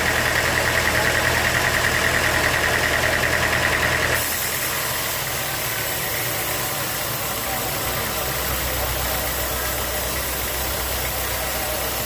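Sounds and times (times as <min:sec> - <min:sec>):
sawmill machinery humming and whining: 0:00.0 - 0:12.0.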